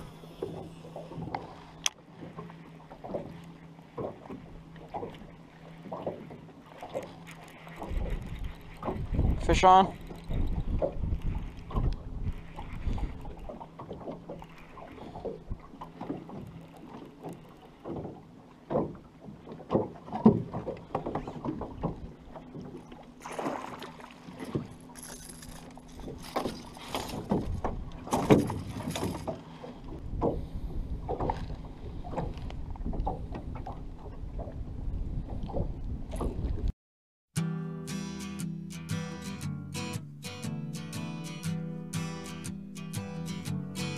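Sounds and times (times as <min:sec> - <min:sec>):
wind: 0:00.0 - 0:36.8, 0:37.4 - 0:43.9.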